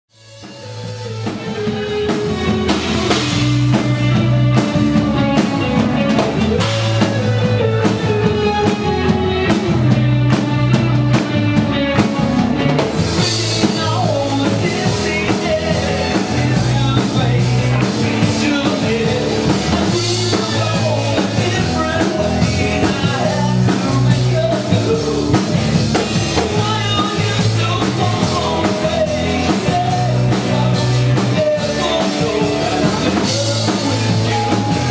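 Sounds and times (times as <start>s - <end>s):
rock band playing: 0.1s - 34.9s.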